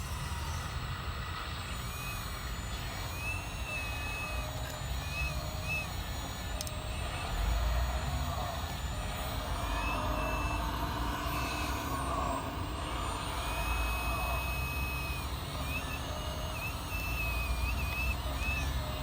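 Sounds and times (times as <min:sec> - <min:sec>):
electric hydraulic pump whining: 0:00.0 - 0:19.0.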